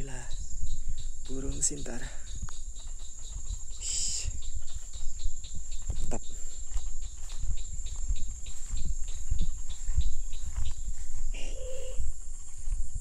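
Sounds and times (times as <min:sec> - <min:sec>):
insects droning and chirping: 0:00.0 - 0:13.0
microphone handling rumble: 0:02.2 - 0:13.0.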